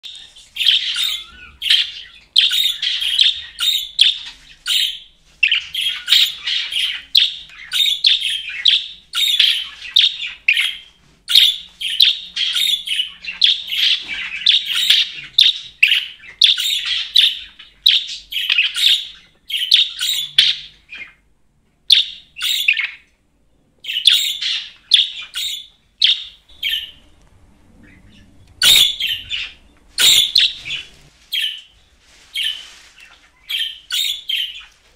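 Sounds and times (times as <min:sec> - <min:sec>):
budgerigar chirping and warbling: 0:00.1 - 0:21.2, 0:21.9 - 0:23.0, 0:23.8 - 0:27.0, 0:27.8 - 0:31.7, 0:33.5 - 0:34.7.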